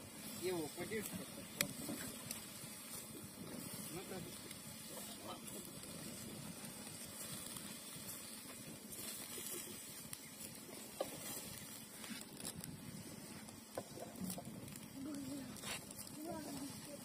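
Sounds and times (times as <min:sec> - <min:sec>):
fire crackles: 0:00.0 - 0:17.0
fire hissing: 0:00.0 - 0:17.0.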